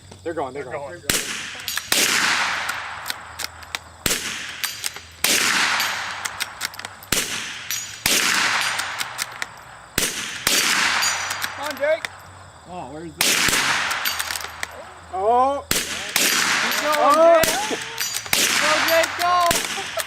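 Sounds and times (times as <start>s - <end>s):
rifle shots with echo: 1.1s - 12.2s, 13.2s - 14.7s, 15.7s - 20.0s
sharp quick cracks: 1.1s - 12.2s, 13.2s - 14.8s, 15.7s - 20.0s.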